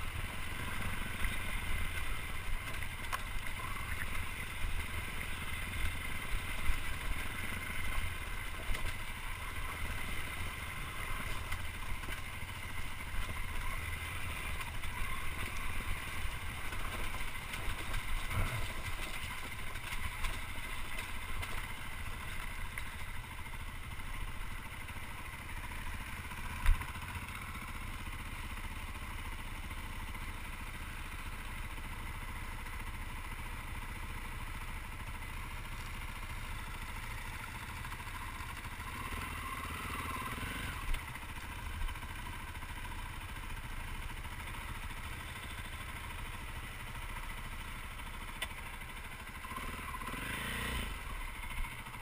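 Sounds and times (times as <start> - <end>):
dirt bike engine: 0.0 - 52.0.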